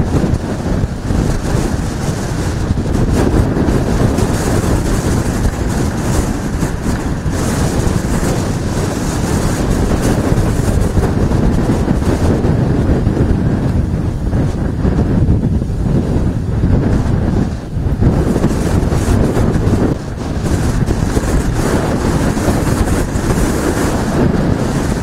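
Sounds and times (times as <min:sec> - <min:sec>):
floodwater rushing: 0:00.0 - 0:25.0
strong wind on microphone: 0:00.0 - 0:25.0.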